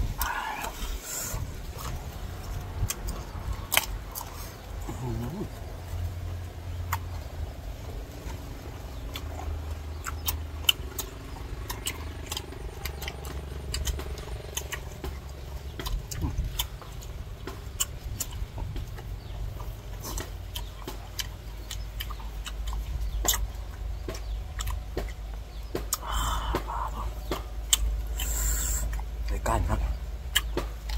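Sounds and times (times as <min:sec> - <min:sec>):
steady low rumble: 0:00.0 - 0:30.9
chewing crisp mango crunches: 0:00.1 - 0:30.9.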